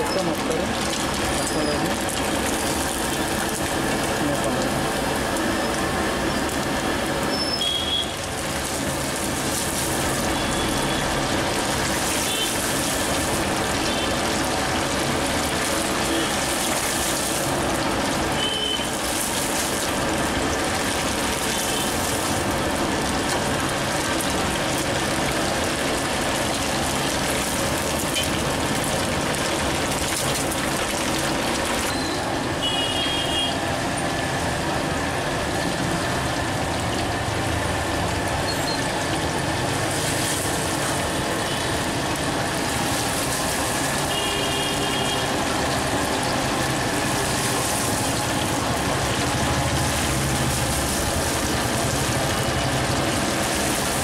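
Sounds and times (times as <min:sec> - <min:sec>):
oil sizzling and bubbling: 0:00.0 - 0:54.0.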